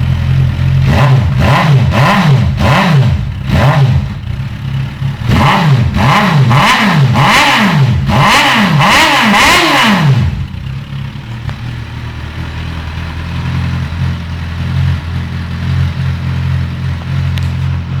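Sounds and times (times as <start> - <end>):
motorcycle engine idling: 0.0 - 18.0
motorcycle engine revving: 0.0 - 18.0.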